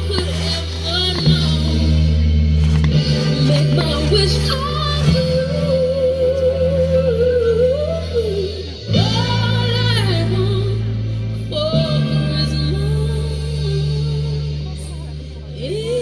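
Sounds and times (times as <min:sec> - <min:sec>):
woman singing pop ballad: 0:00.0 - 0:16.0.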